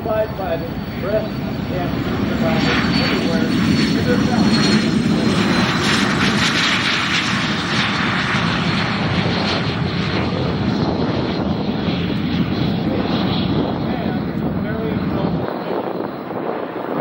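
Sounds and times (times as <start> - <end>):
jet aircraft rushing past: 0.0 - 17.0.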